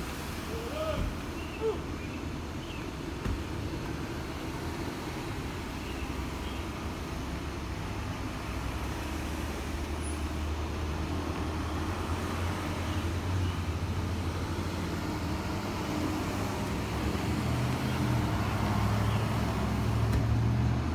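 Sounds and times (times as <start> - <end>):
vehicle engine humming: 0.0 - 20.9.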